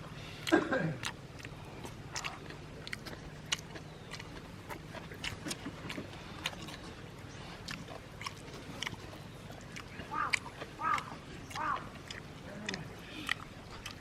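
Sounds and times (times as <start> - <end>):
person chewing food: 0.0 - 14.0
mouth clicks and smacks: 0.4 - 14.0.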